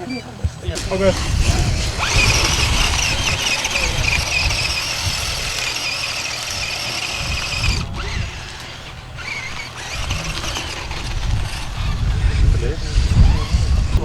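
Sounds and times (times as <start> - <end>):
rc car motor whining: 0.0 - 14.0.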